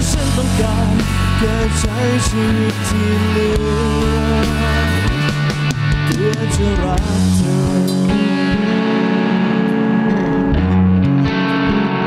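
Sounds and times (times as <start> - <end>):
rock electric guitar chords: 0.0 - 12.0.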